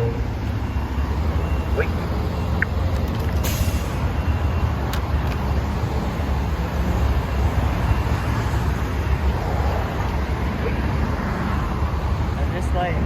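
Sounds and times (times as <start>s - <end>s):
traffic engine and tyre rumble: 0.0s - 13.0s.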